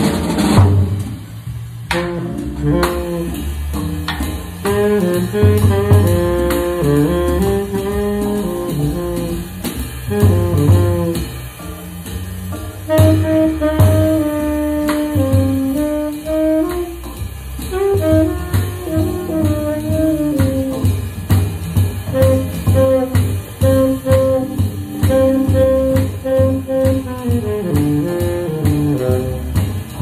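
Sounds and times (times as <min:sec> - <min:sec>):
drum kit: 0:00.0 - 0:30.0
tenor saxophone blues melody: 0:01.9 - 0:03.5, 0:04.6 - 0:11.8, 0:12.8 - 0:21.4, 0:22.0 - 0:30.0.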